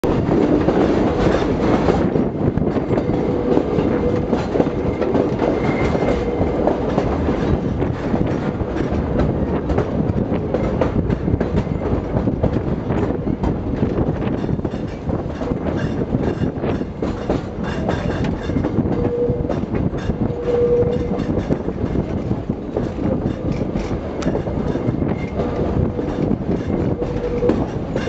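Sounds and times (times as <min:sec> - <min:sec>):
rapid clicking of rails: 0:00.0 - 0:28.0
train wheels rumbling on rails: 0:00.0 - 0:28.0.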